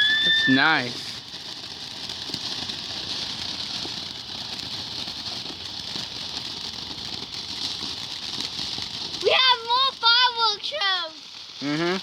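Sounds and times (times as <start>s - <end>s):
firework fountain hissing and crackling: 0.0s - 12.0s.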